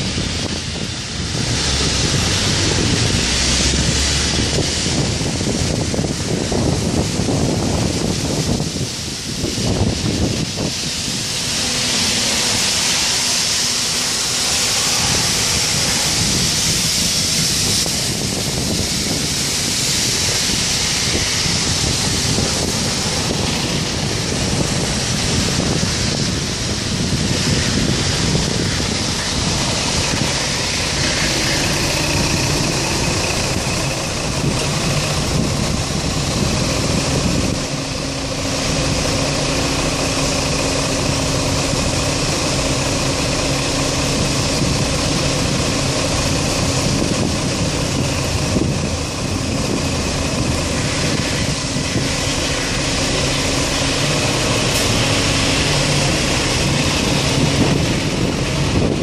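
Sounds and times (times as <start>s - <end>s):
idling vehicle engine hum: 0.0s - 59.0s
vehicle engines running: 0.0s - 59.0s
wind on microphone: 0.0s - 59.0s.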